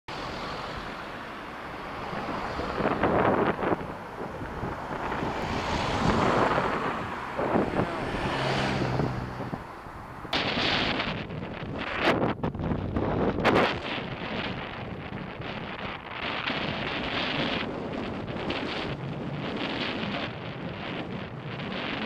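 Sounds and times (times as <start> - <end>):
vehicles passing: 0.1 - 22.0
wind buffeting microphone: 0.1 - 22.0.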